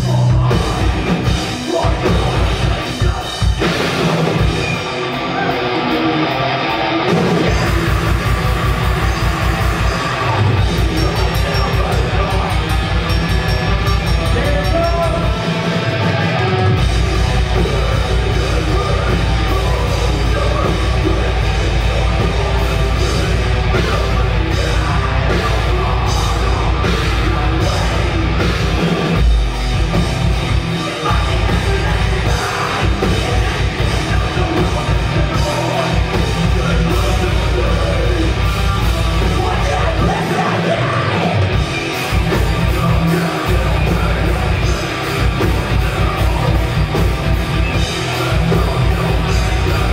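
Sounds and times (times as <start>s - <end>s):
death metal band playing live: 0.0s - 49.9s
distorted guitars: 0.0s - 49.9s
drums: 0.0s - 49.9s.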